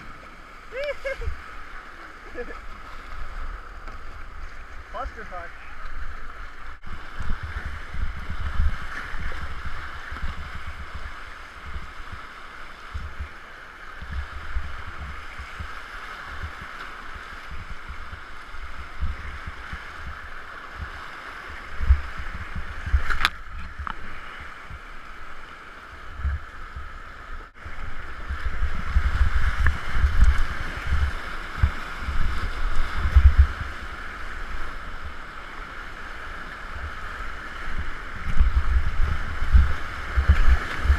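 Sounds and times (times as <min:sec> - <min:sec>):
wind buffeting microphone: 0:02.3 - 0:25.1, 0:26.0 - 0:35.1, 0:36.6 - 0:40.9.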